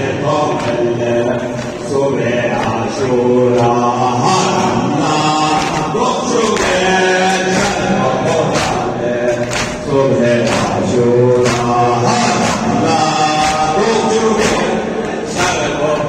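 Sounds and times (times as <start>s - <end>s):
men chanting a devotional song: 0.0s - 16.0s
steady beat: 0.0s - 16.0s.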